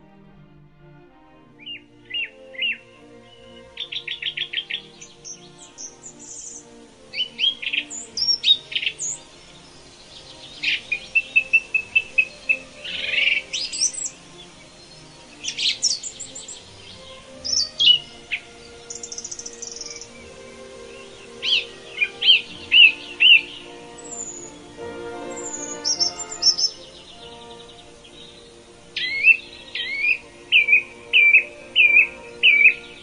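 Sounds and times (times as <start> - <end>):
soft background music: 0.0 - 33.0
songbirds chirping and singing: 1.2 - 33.0.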